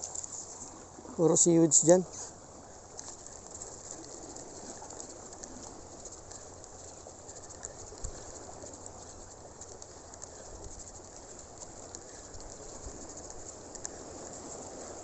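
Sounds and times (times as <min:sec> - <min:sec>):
faint crackling: 0:02.1 - 0:15.0.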